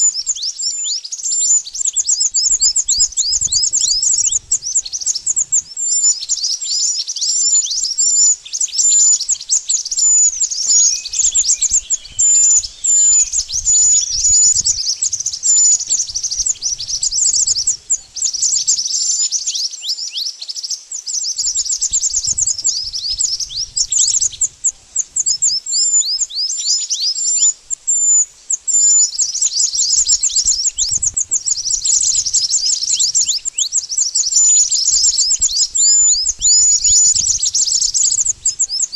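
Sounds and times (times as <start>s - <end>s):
bird song with high chirps: 0.0s - 38.9s.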